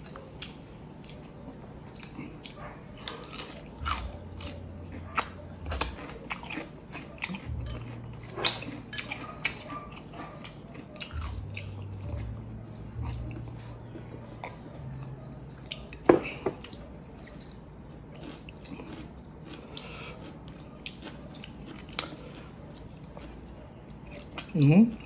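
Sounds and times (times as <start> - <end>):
person chewing: 0.0 - 25.0.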